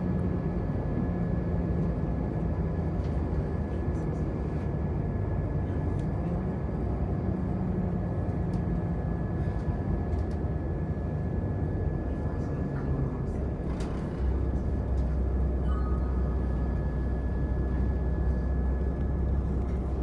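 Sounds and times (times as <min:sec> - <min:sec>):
low engine drone: 0:00.0 - 0:20.0
train rumble: 0:00.0 - 0:20.0.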